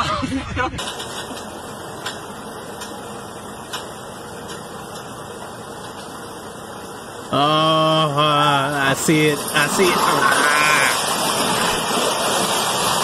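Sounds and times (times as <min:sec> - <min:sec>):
wheel loader engine running: 0:00.7 - 0:13.0.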